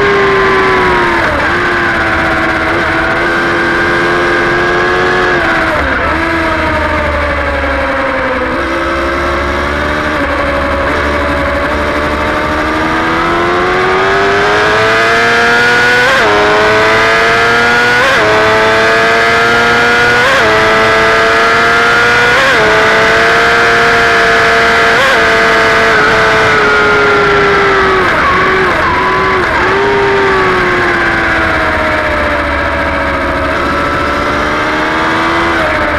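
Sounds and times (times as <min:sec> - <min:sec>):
motorcycle engine accelerating hard: 0:00.0 - 0:35.9.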